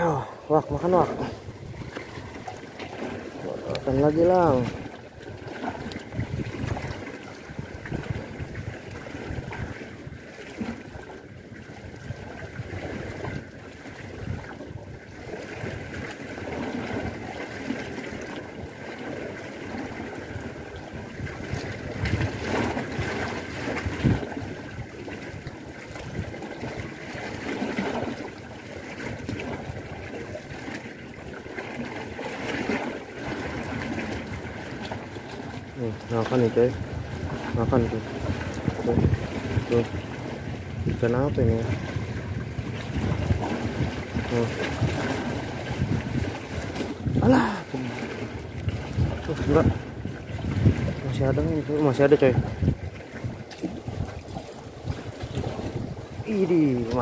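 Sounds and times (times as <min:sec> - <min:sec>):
water lapping against concrete wall: 0:00.0 - 0:57.0.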